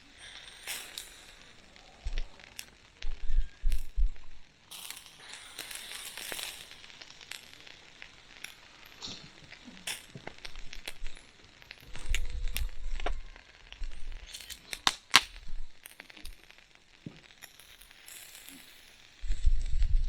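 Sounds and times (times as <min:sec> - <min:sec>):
fire crackling: 0:00.0 - 0:20.0.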